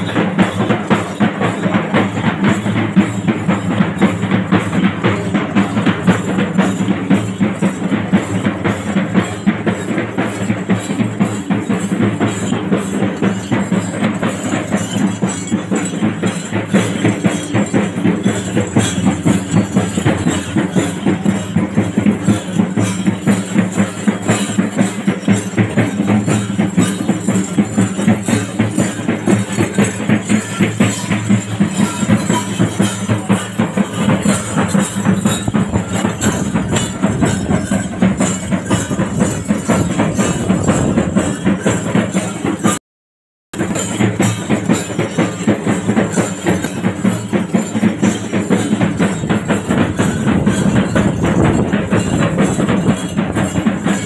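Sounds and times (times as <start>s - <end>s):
fast folk percussion: 0.0s - 42.8s, 43.5s - 54.0s
metallic jingling: 0.0s - 42.8s, 43.6s - 54.0s.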